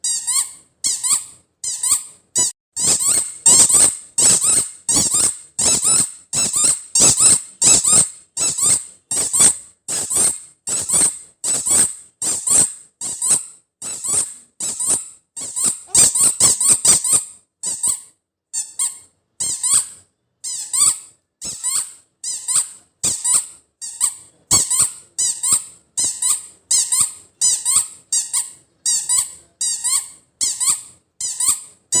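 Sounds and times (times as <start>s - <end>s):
squeaky toy ball squeaking: 0.0s - 32.0s.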